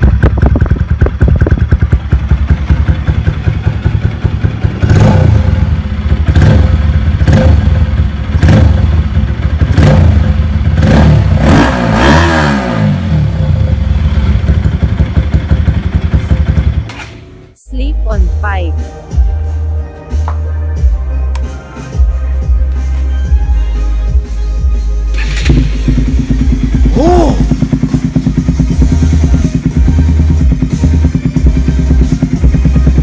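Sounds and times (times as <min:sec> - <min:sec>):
motorcycle engine idling and revving: 0:00.0 - 0:20.2, 0:20.8 - 0:33.0.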